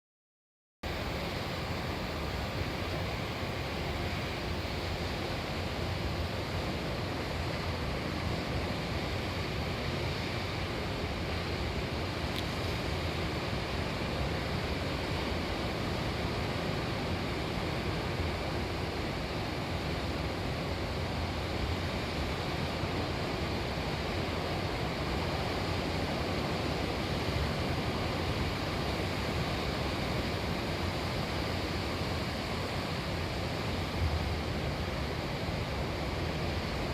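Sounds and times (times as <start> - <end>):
ocean surf breaking: 0.9 - 36.9.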